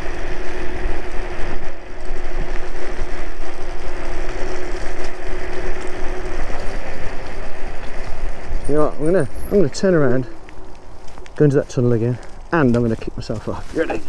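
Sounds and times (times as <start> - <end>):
steady hum: 0.0 - 12.7
tyre rumble on tarmac: 0.0 - 14.0.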